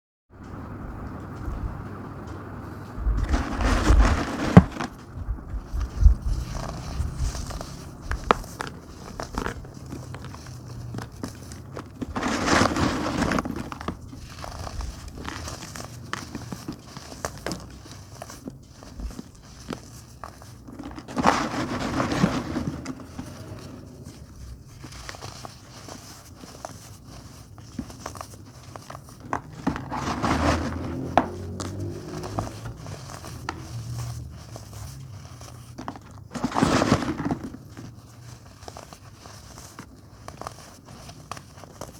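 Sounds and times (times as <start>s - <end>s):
fine crackling of crumbling powder: 0.6s - 41.9s
chunks crunching: 3.1s - 41.9s.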